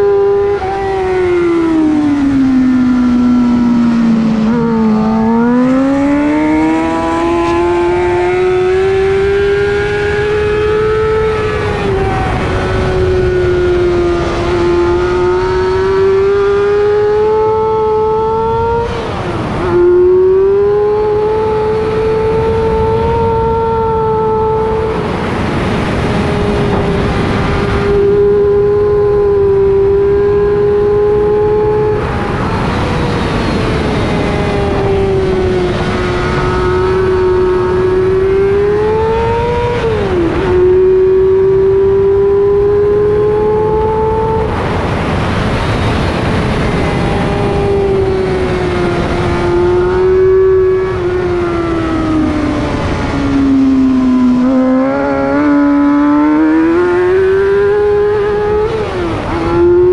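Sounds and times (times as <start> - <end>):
heavy wind noise: 0.0 - 59.9
motorcycle engine revving: 0.0 - 59.9.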